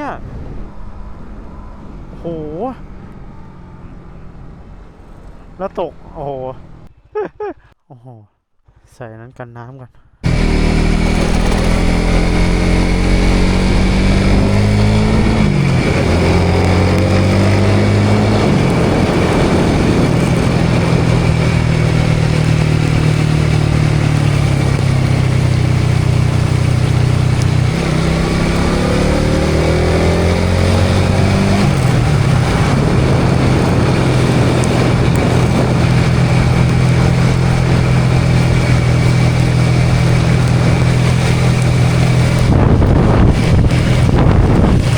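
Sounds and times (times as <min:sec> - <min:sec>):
motorcycle engine accelerating: 0:00.0 - 0:07.2, 0:10.2 - 0:44.9
wind and road noise: 0:00.0 - 0:07.2, 0:10.2 - 0:44.9.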